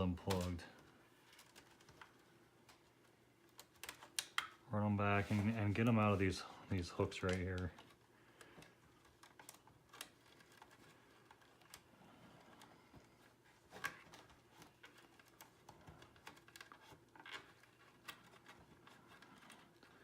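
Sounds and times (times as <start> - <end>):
wiring rustling: 0.0 - 20.0.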